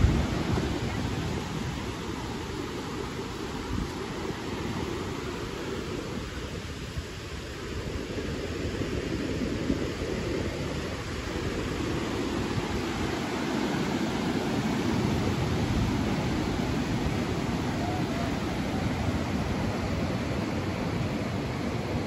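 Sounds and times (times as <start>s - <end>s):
ocean surf breaking: 0.0s - 6.6s, 8.5s - 22.0s
wind rumbling on microphone: 0.0s - 22.0s.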